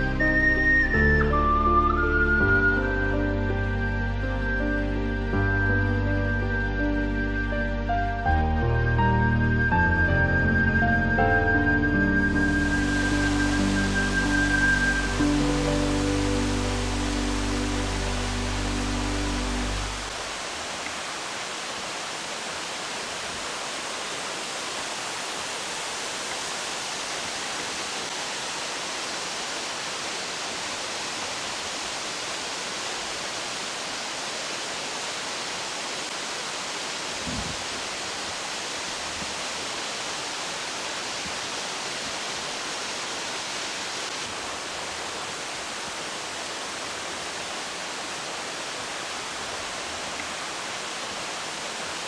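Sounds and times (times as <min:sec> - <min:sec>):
stream and waterfall rushing: 0:00.0 - 0:52.0.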